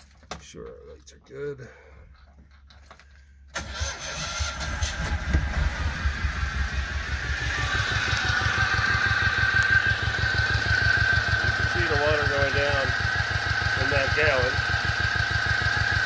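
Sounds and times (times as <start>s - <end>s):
diesel engine starting and running: 2.1s - 16.0s.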